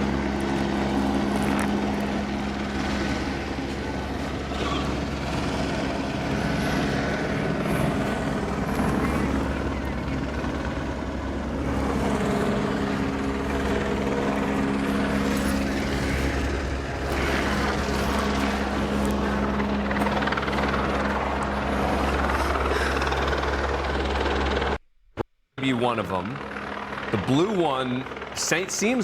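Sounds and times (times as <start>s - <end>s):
helicopter hovering overhead: 0.0s - 24.8s, 25.6s - 29.0s.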